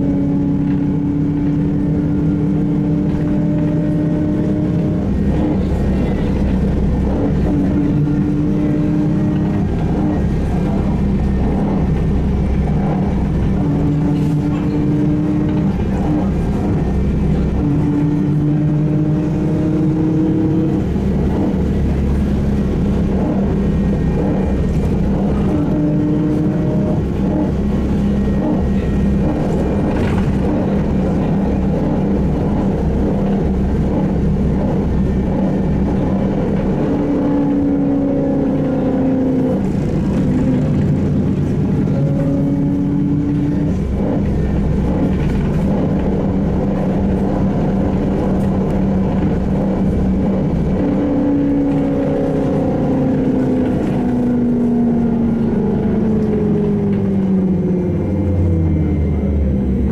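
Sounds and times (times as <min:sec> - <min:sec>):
electric traction motor whine: 0:00.0 - 0:59.9
trolleybus rumble and hum: 0:00.0 - 0:59.9.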